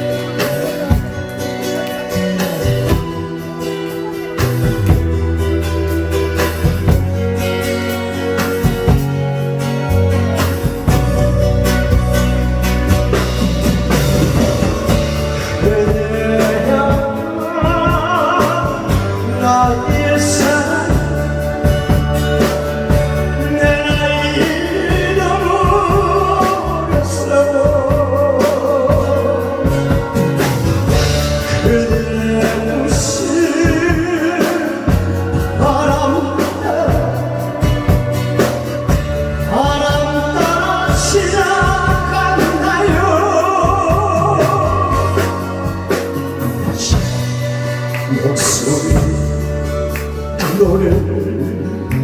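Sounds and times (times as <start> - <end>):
backing track with beat and bass: 0.0 - 52.0
man singing a pop ballad: 9.3 - 52.0.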